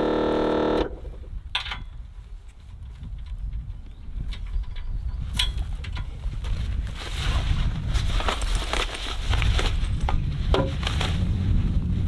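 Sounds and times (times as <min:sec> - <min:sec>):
rustling and clicking of air hose: 0:00.7 - 0:11.2.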